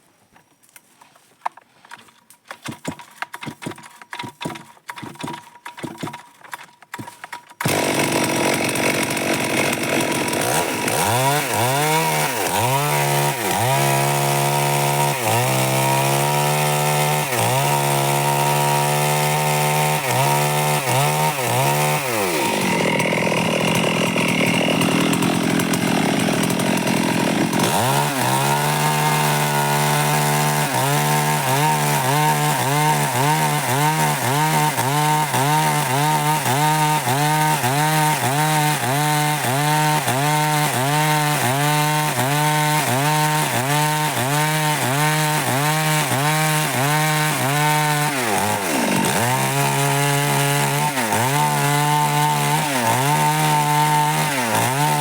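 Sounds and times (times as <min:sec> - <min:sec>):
chainsaw cutting wood: 0:01.9 - 0:55.0.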